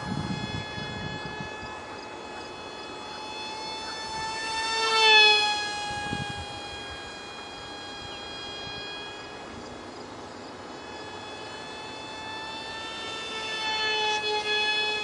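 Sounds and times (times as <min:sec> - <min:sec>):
model jet propeller whining: 0:00.0 - 0:15.0.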